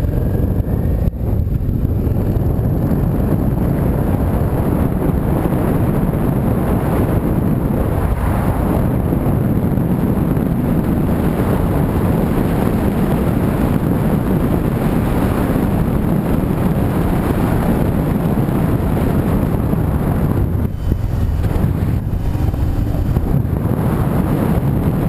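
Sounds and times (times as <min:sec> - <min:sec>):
road and engine rumble: 0:00.0 - 0:25.0
wind noise: 0:00.0 - 0:25.0.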